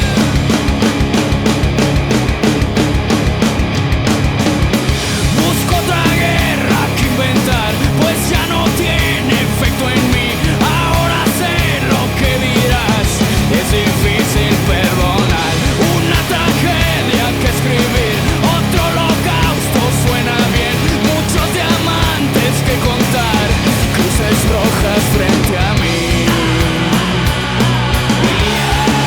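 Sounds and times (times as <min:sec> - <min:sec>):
punk rock song: 0:00.0 - 0:29.0
steady drum beat: 0:00.0 - 0:29.0.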